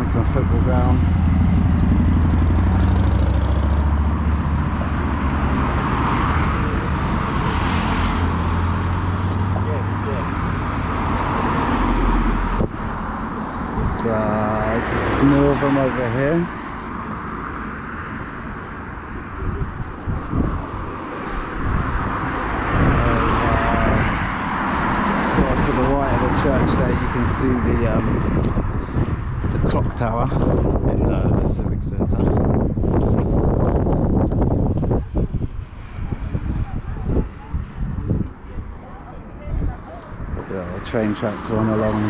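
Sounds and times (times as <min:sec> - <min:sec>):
traffic passing: 0:00.0 - 0:42.0
wind buffeting microphone: 0:00.0 - 0:42.0.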